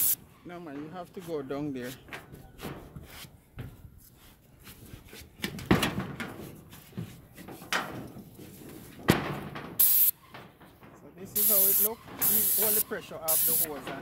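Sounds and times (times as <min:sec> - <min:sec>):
footsteps on a metal roof: 0:00.5 - 0:14.0.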